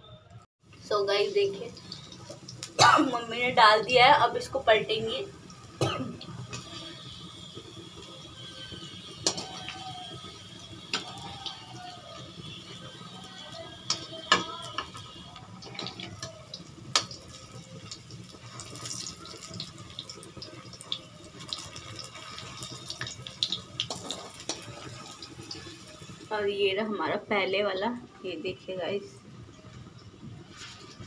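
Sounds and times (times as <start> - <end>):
food sizzling in hot oil: 0.6 - 31.0.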